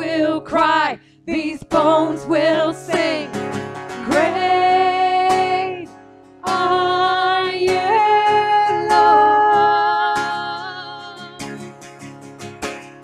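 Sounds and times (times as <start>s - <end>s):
women singing: 0.0s - 11.6s
acoustic guitar: 0.0s - 13.0s.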